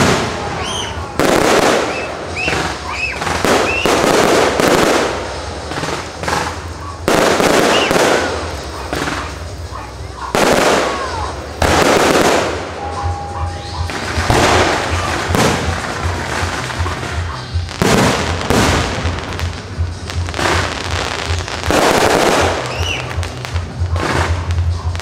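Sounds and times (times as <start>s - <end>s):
firework shells bursting: 0.0s - 25.0s.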